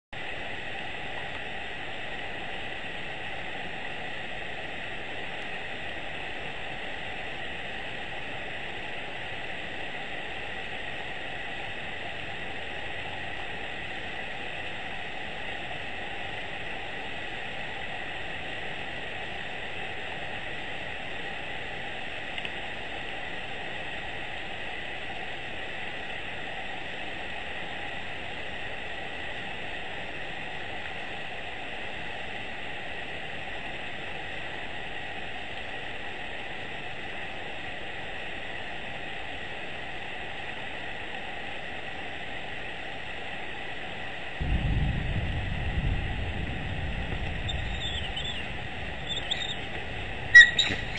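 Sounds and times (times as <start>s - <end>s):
faint high hum: 0.2s - 50.9s
steady hiss: 0.2s - 50.9s.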